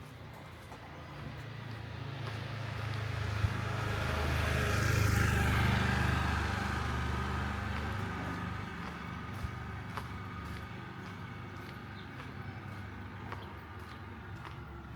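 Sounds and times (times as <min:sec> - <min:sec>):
vehicle engine hum passing: 0:00.0 - 0:14.9.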